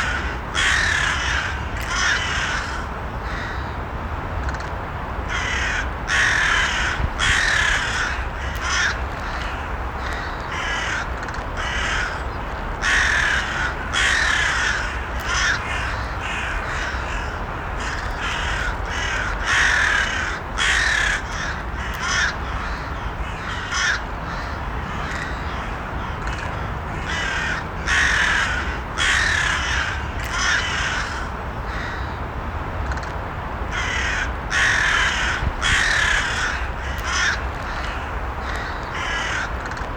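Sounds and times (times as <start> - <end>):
crows cawing: 0.0 - 3.8, 5.3 - 32.2, 33.7 - 39.9.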